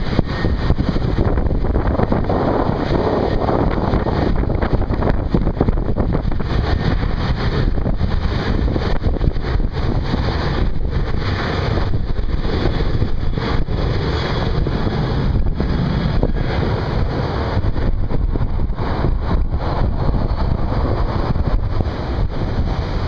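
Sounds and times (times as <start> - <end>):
distant jet engines roaring: 0.0 - 23.0
wind buffeting microphone: 0.0 - 23.0.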